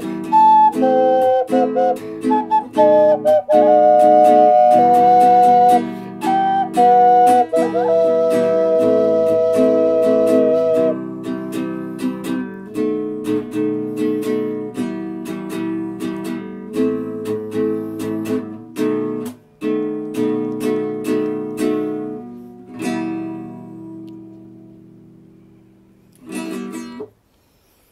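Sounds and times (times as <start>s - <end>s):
acoustic guitar strumming chords: 0.0s - 27.1s.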